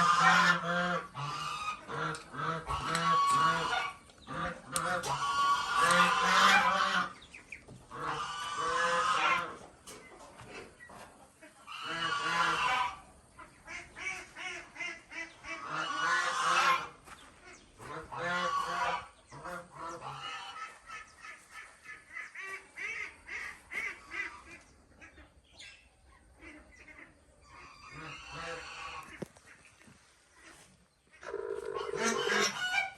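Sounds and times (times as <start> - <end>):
ducks quacking: 0.0 - 32.9.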